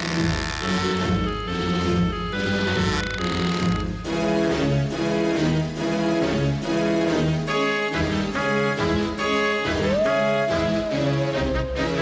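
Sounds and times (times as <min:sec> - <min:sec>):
cartoon soundtrack music: 0:00.2 - 0:12.0.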